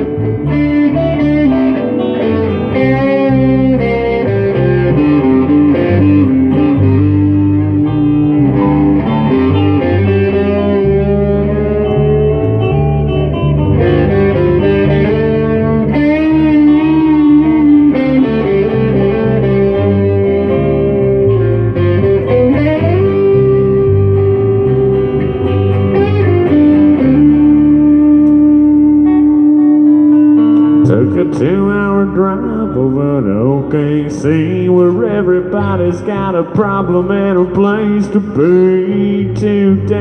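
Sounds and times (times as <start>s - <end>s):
lead guitar with bent notes: 0.0s - 40.0s
low instrumental backing: 0.0s - 40.0s.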